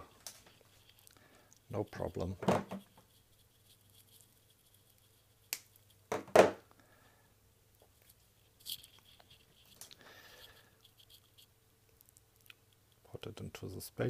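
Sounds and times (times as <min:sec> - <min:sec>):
scraping and rustling of wire: 0:00.0 - 0:06.0, 0:07.8 - 0:13.1.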